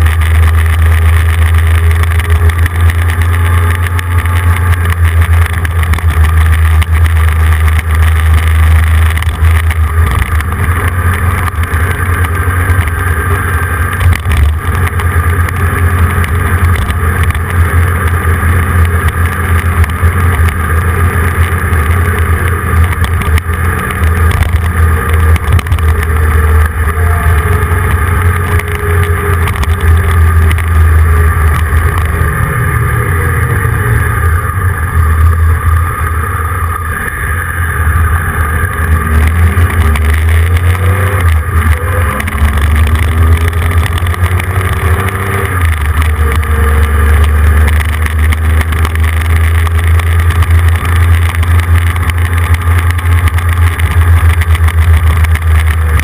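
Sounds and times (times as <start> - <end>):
road and wind noise: 0.0 - 56.0
vehicle engine drone: 0.0 - 56.0.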